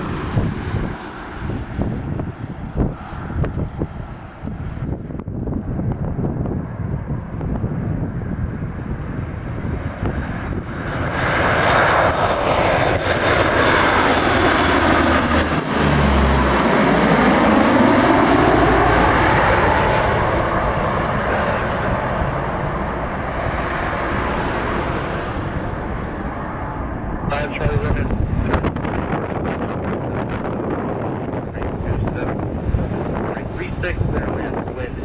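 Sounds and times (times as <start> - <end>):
jet aircraft passing overhead: 0.0 - 35.0.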